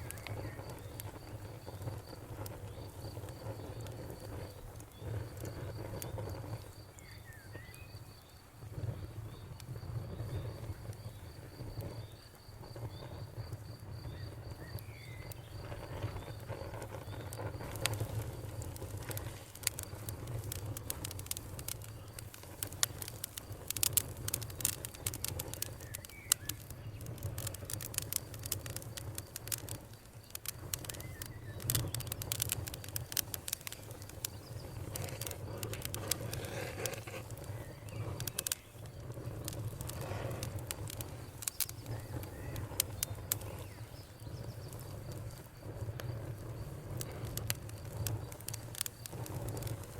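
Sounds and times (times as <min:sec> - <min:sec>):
insect trill: 0:00.0 - 0:49.9
wood fire crackling: 0:00.0 - 0:49.9.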